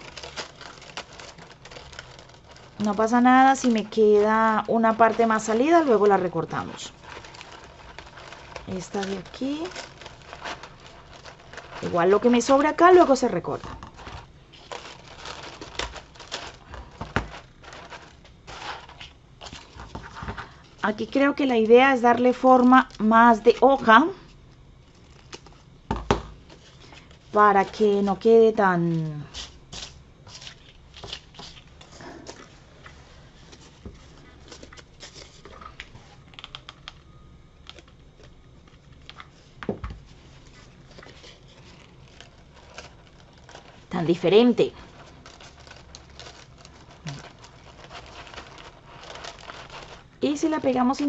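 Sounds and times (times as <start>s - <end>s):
crepe paper rustling: 0.0s - 24.0s, 26.5s - 37.0s, 37.6s - 51.0s.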